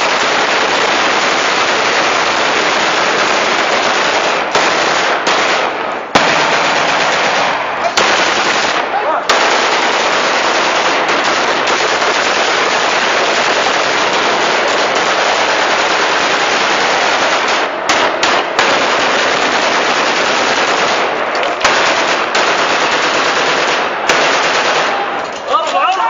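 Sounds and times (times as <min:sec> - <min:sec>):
automatic rifle fire: 0:00.0 - 0:25.4.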